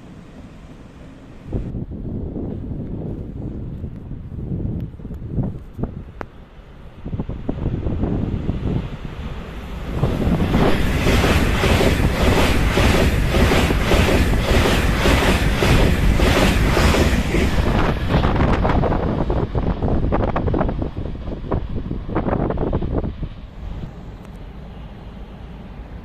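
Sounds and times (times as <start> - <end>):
train rushing past: 0.0 - 3.9, 5.3 - 26.0
wind buffeting microphone: 1.4 - 23.9.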